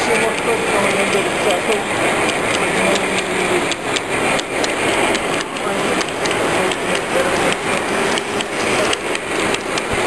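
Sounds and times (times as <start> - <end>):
crowd chatter: 0.0 - 10.0
model train wheels clicking: 0.0 - 10.0.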